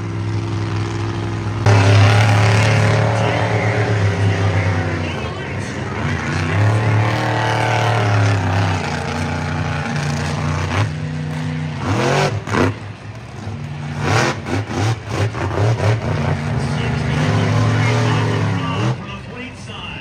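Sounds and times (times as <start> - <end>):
monster truck engine revving: 0.0 - 19.7.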